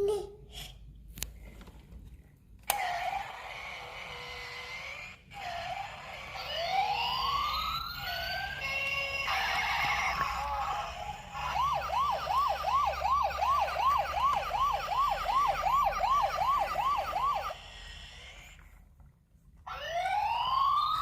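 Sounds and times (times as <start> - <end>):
toy siren fast yelp: 2.7 - 18.3, 19.7 - 21.0
toy siren slow rising wail: 2.7 - 18.7, 19.7 - 21.0.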